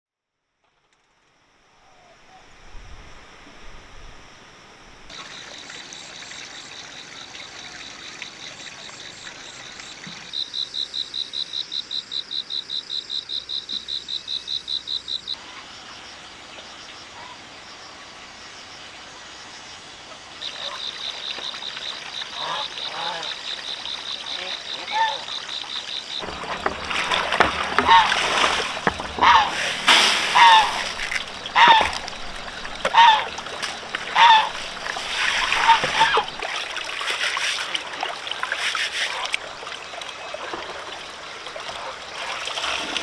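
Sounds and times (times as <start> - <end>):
insects trilling: 1.1 - 43.0.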